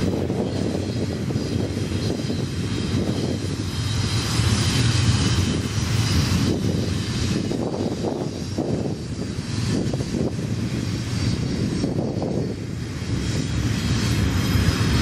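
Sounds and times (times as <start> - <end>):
rushing noise: 0.0 - 15.0
train wheels rumbling on rail: 0.0 - 15.0.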